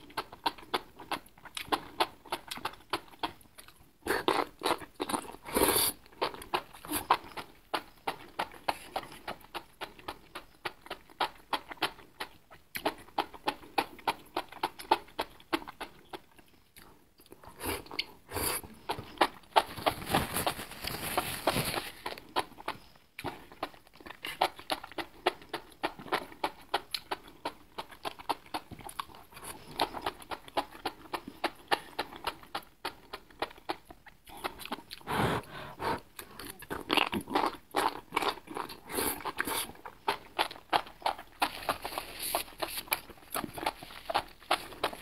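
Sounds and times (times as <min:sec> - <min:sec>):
person chewing with wet mouth clicks: 0:00.0 - 0:20.0, 0:21.7 - 0:45.0.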